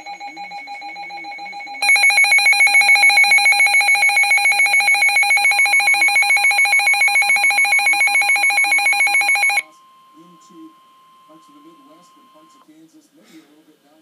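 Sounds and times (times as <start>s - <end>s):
pulsing electronic alarm tone: 0.0s - 12.6s
quiet steady tone: 0.0s - 12.9s.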